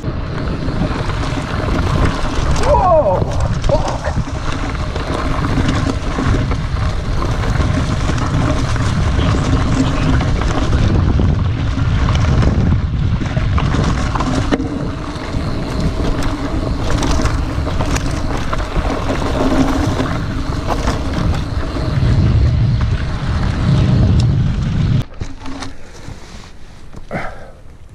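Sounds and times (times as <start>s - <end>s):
bike knocks and rattles: 0.0s - 27.9s
tyre and wind rush: 0.0s - 27.9s.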